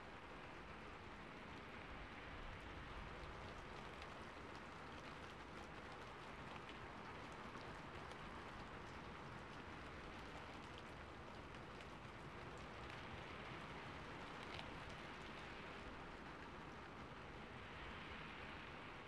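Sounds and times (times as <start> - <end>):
quiet rain falling: 0.0 - 19.0
raindrop ticks: 0.0 - 19.0.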